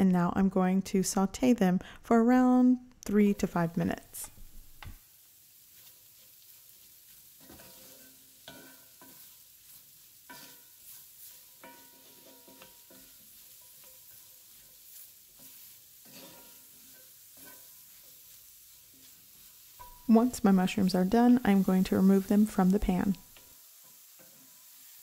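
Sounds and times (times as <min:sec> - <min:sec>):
mushrooms sizzling in a skillet: 0:03.2 - 0:25.0
wooden spoon scraping a pan: 0:03.3 - 0:25.0.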